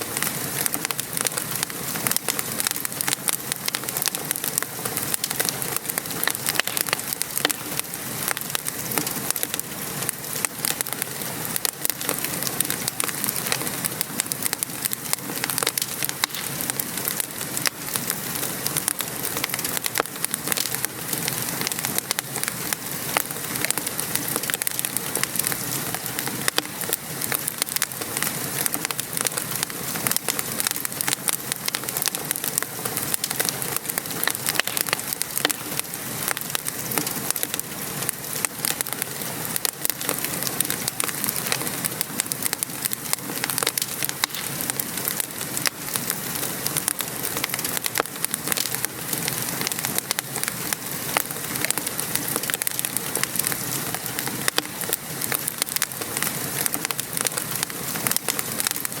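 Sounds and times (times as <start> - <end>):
fireplace fire crackling: 0.0 - 59.0
rain patter: 0.0 - 59.0.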